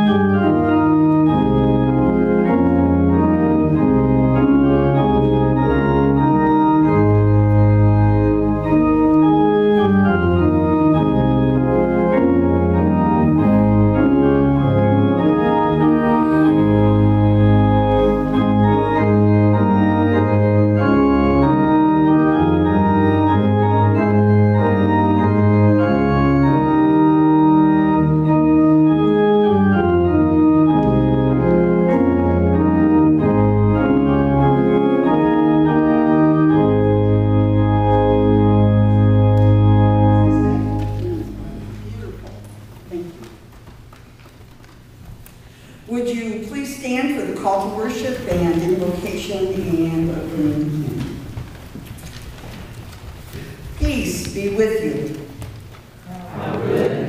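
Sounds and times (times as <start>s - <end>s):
organ chords: 0.0s - 57.0s.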